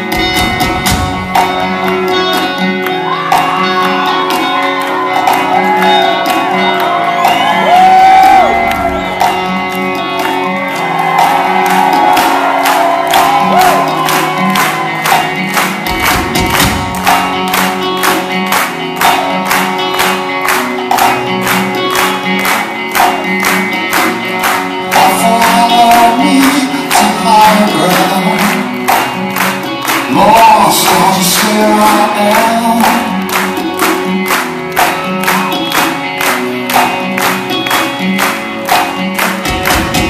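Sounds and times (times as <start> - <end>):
audience clapping along: 0.0 - 40.0
live rock band playing: 0.0 - 40.0.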